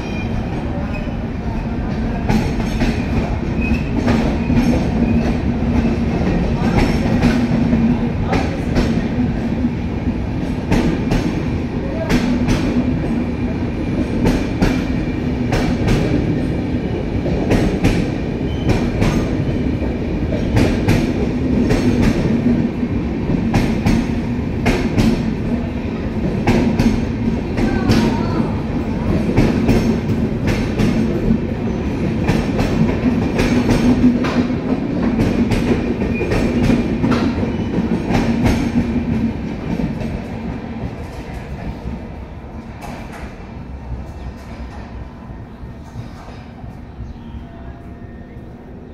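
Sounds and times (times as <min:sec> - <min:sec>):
low train hum: 0:00.0 - 0:48.9.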